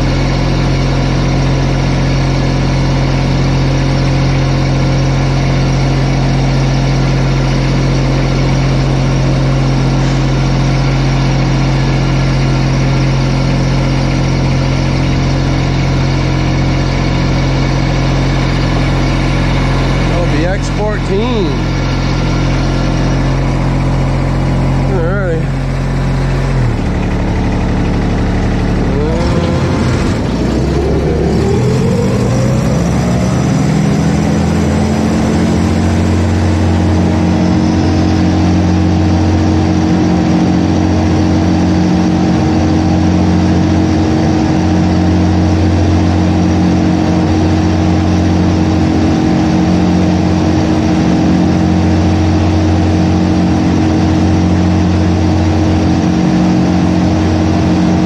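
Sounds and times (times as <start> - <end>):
mower engine revving: 0.0 - 58.0.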